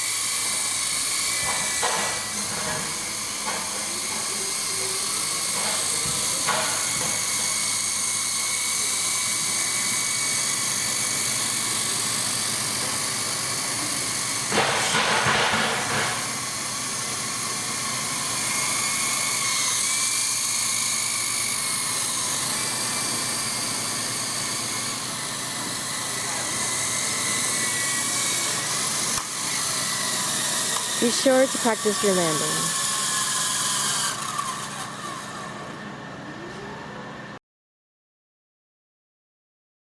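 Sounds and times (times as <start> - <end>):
toy helicopter rotors whirring: 0.0 - 36.4.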